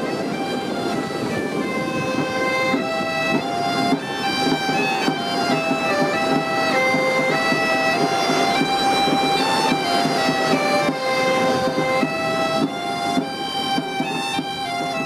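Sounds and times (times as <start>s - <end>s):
bagpipe music: 0.0s - 15.0s.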